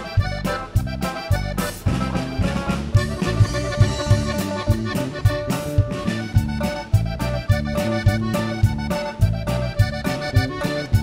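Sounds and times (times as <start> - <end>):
bass line: 0.0 - 11.0
button accordion playing: 0.0 - 11.0
steady beat: 0.0 - 11.0.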